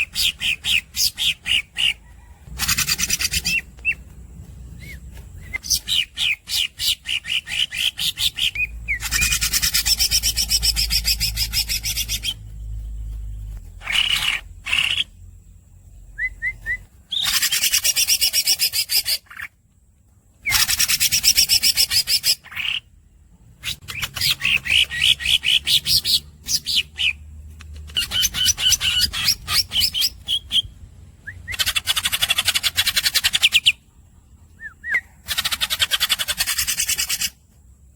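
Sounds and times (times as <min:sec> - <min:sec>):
bird singing chirps and trills: 0:00.0 - 0:19.6, 0:20.4 - 0:37.4.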